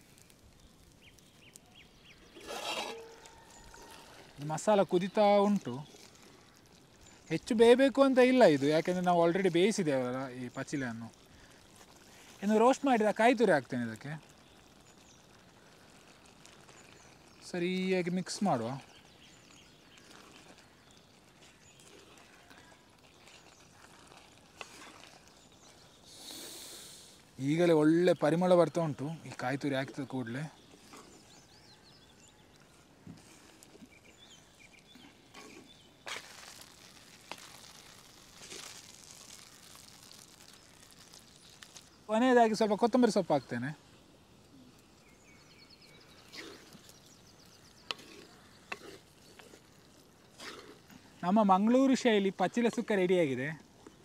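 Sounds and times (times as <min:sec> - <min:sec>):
wooden spoon stirring thick mix: 0:00.0 - 0:26.5, 0:27.2 - 0:54.0
low sizzle from hot pot: 0:00.0 - 0:54.0.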